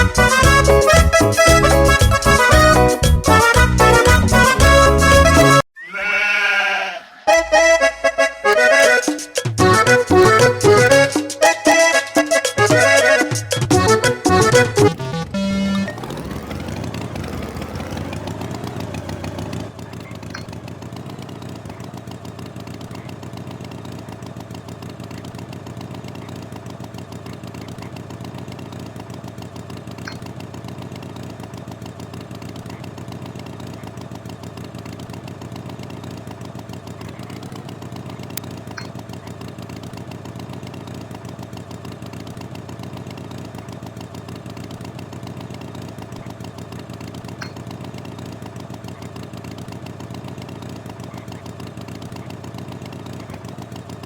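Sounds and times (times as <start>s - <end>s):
engine running steadily: 0.0s - 5.6s, 7.4s - 54.0s.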